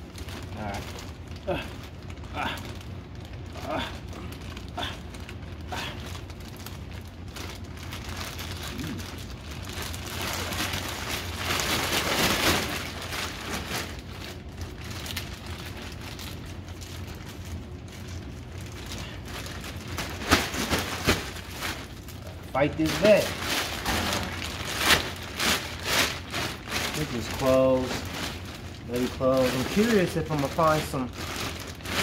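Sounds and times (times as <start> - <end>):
plastic bag rustling: 0.0 - 32.0.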